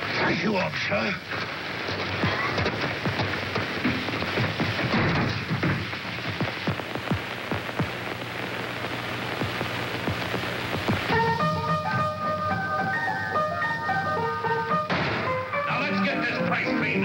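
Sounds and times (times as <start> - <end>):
film soundtrack hiss and crackle: 0.0 - 17.0.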